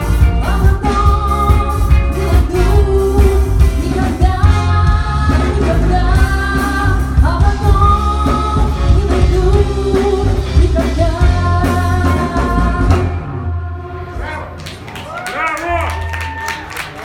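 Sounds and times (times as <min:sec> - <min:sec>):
live band playing pop-rock: 0:00.0 - 0:14.1
heavy bass: 0:00.0 - 0:15.1.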